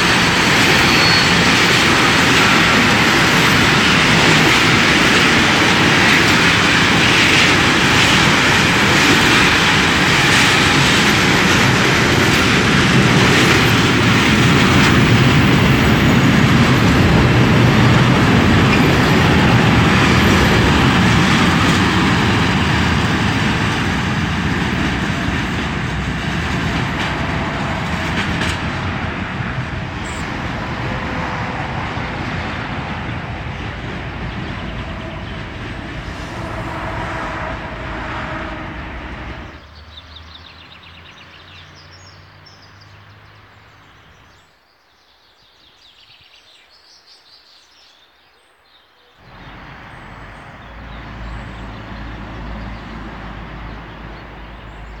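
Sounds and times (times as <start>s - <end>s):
freight train wheels on track: 0.0s - 40.3s, 49.2s - 55.0s.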